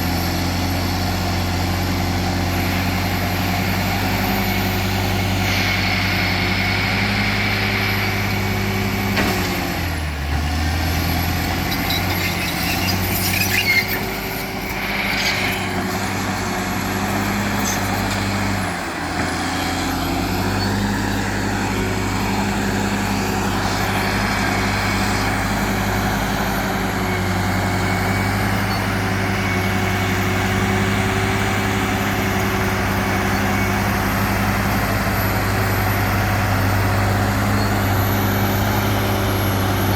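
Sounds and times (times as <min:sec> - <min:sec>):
heavy diesel machine engine running: 0:00.0 - 0:39.9.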